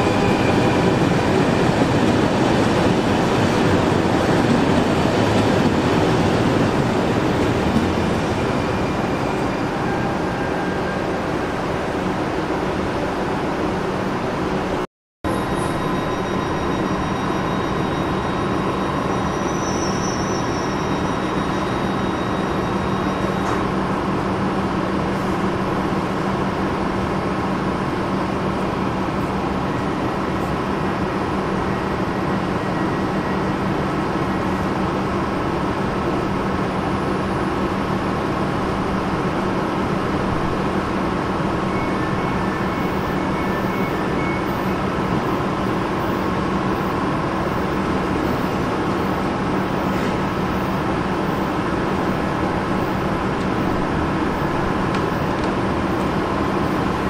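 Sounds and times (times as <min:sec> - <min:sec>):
train hum and blower: 0:00.0 - 0:57.0.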